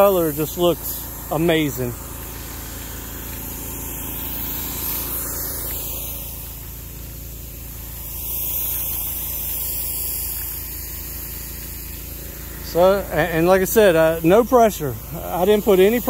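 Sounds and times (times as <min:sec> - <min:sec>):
engine idling: 0:00.0 - 0:16.0
steady high hiss: 0:00.0 - 0:16.0.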